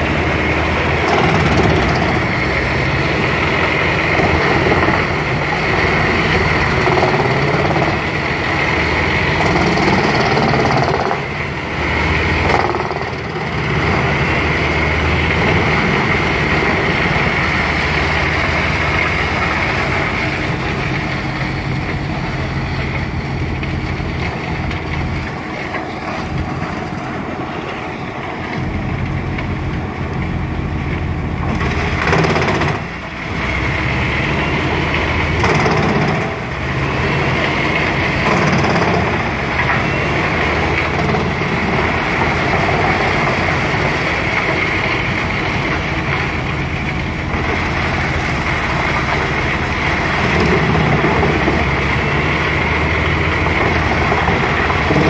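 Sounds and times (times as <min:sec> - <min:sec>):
wood chipper drone: 0:00.0 - 0:55.0.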